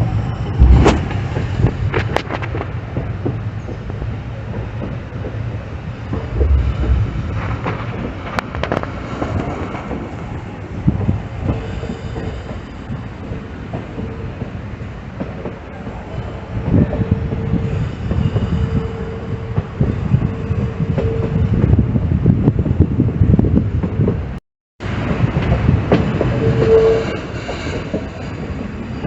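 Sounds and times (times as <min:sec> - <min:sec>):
train rumbling on rails: 0:00.0 - 0:29.0
train wheels clicking: 0:00.4 - 0:21.8, 0:24.9 - 0:29.0.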